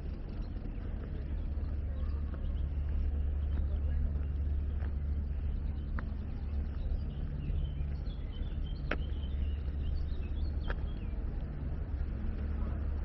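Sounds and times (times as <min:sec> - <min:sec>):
city ambience rumble: 0:00.0 - 0:13.0
small birds chirping: 0:00.0 - 0:13.0.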